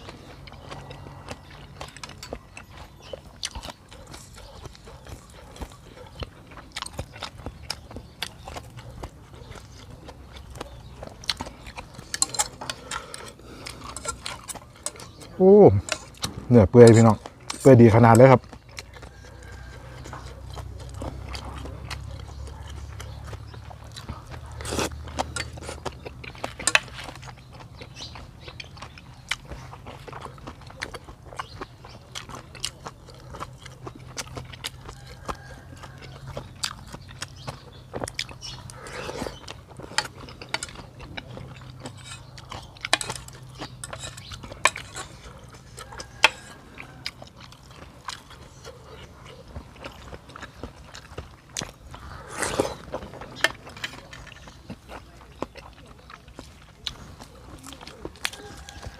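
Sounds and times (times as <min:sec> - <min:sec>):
person chewing and slurping: 0:00.0 - 0:58.9.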